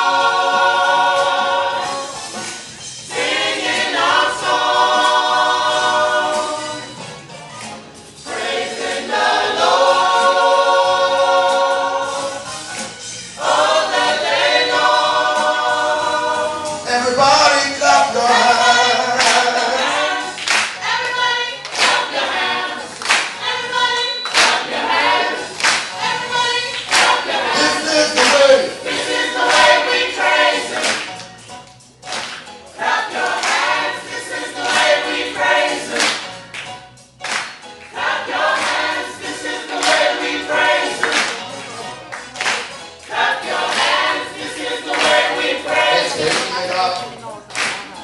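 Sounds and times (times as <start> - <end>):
rhythmic hand clapping: 0.0 - 6.8, 7.6 - 48.0
choir singing in harmony: 0.0 - 7.3, 8.0 - 31.2, 32.5 - 36.5, 37.5 - 48.0.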